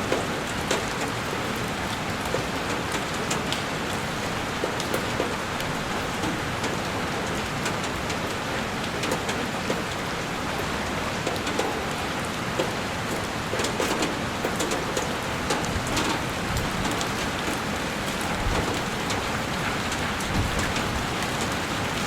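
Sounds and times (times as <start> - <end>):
heavy rain on a window: 0.0 - 22.0
raindrops ticking on glass: 0.1 - 22.0.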